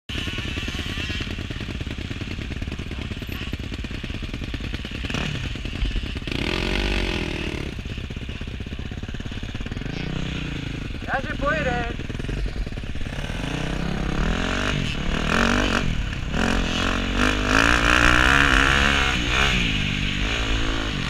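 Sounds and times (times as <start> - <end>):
dirt bike engine running: 0.1 - 21.0.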